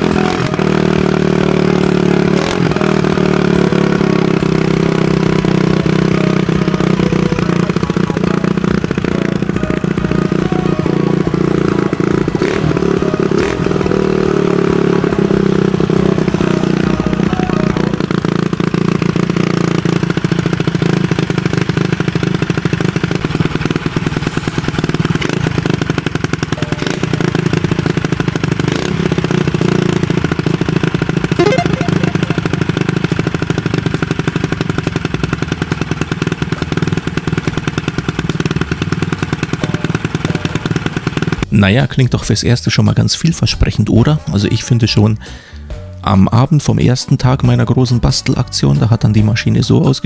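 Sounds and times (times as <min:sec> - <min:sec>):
motorcycle engine idling: 0:00.0 - 0:41.5.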